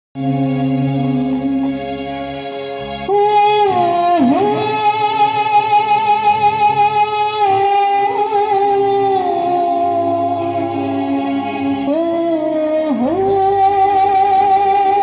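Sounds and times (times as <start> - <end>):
bass guitar: 0.2 - 15.0
keyboard: 0.2 - 15.0.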